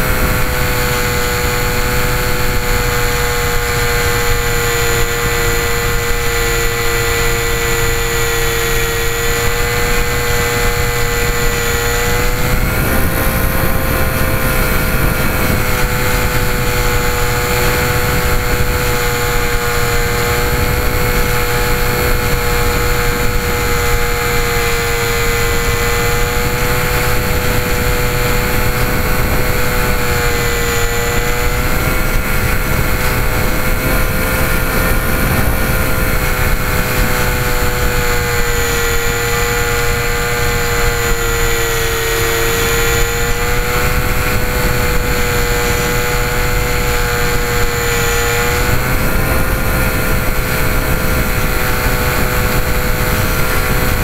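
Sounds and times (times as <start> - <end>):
small electric motors whining: 0.0 - 54.0.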